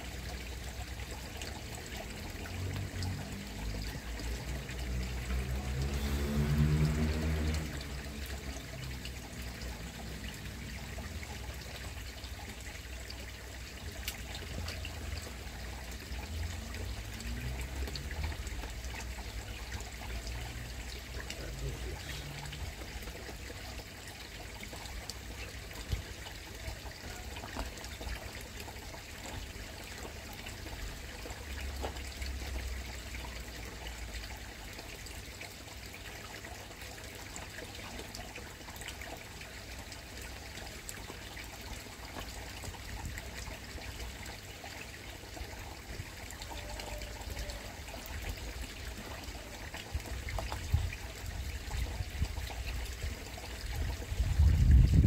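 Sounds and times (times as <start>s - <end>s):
pond water trickling: 0.0s - 55.0s.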